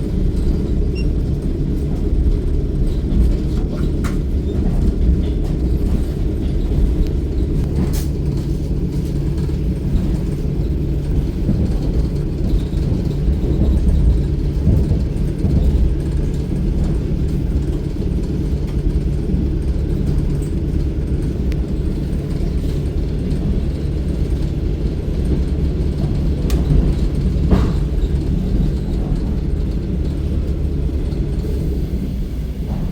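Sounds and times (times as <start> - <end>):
train wheels rumbling: 0.0 - 32.9.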